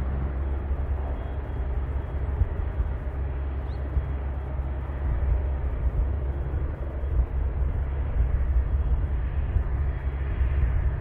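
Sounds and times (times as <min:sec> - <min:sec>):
helicopter hovering: 0:00.0 - 0:11.0
wind rumble on microphone: 0:00.0 - 0:11.0.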